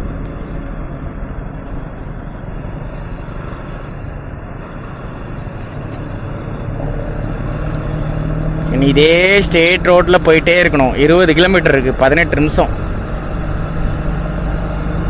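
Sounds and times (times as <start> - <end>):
motorcycle engine drone: 0.0 - 15.0
wind and road noise: 0.0 - 15.0.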